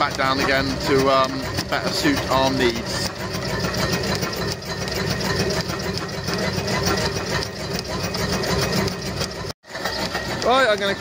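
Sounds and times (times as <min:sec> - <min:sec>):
engine mechanical clatter: 0:00.0 - 0:11.0.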